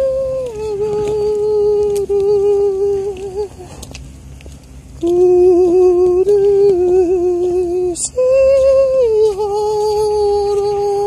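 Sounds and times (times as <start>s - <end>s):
woman singing wordless notes: 0.0s - 3.7s, 5.0s - 11.0s.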